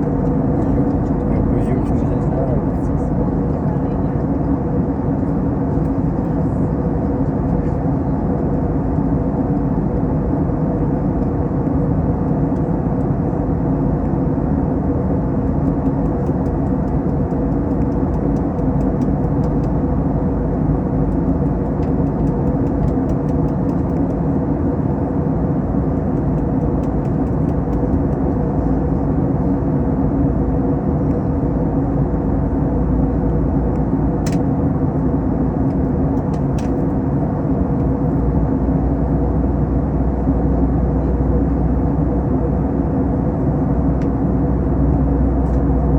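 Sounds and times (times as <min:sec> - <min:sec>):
airplane cabin engine noise: 0:00.0 - 0:45.9
steady low hum: 0:00.0 - 0:45.9.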